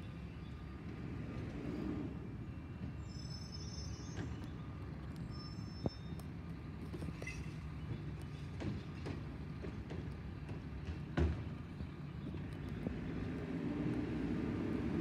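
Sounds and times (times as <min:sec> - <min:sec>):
distant truck engine rumble: 0:00.0 - 0:15.0.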